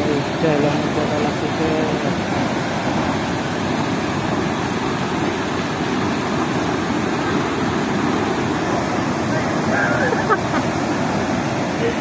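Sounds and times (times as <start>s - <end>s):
water rushing through weir: 0.0s - 12.0s.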